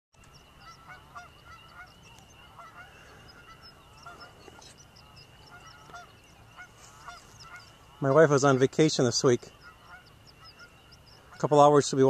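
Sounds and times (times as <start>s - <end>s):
geese honking: 0.2s - 12.0s.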